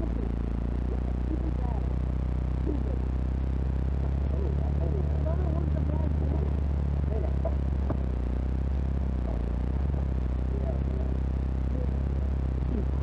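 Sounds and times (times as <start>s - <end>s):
engine drone inside vehicle: 0.0s - 13.0s.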